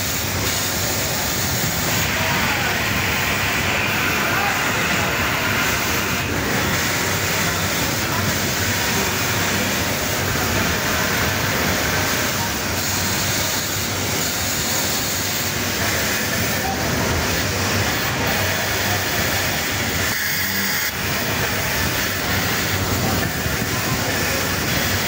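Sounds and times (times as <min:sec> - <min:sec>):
industrial sewing machines running: 0:00.0 - 0:25.0.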